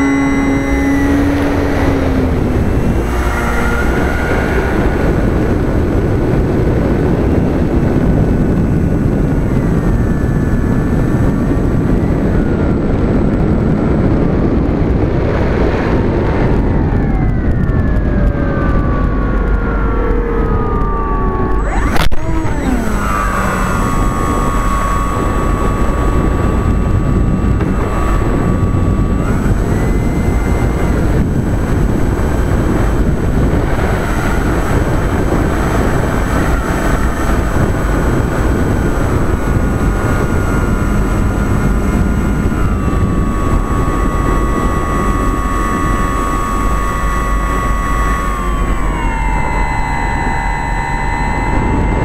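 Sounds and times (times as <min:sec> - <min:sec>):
model plane motor running: 0:00.0 - 0:52.0
wind rush on microphone: 0:00.0 - 0:52.0.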